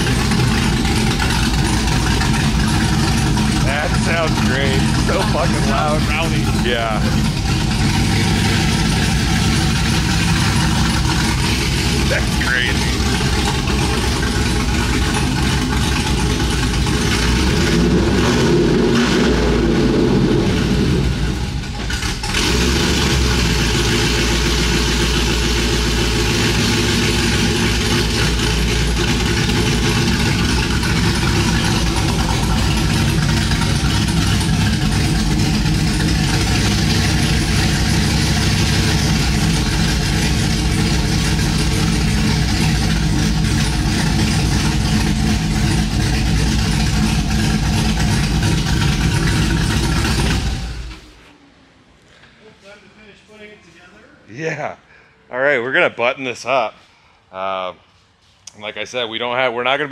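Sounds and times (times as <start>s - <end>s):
loud vee eight engine idling: 0.0s - 51.2s.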